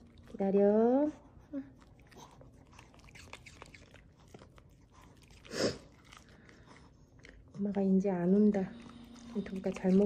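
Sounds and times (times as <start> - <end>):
dog chewing pear: 0.0 - 10.0.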